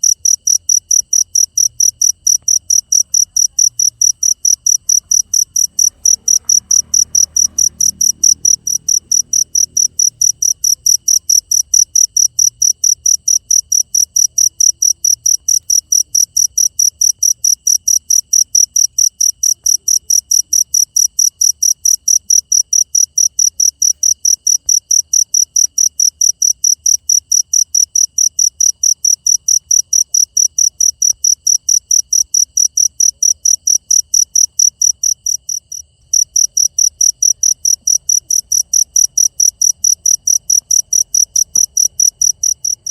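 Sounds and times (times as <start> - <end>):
cricket chirping: 0.0 - 42.9.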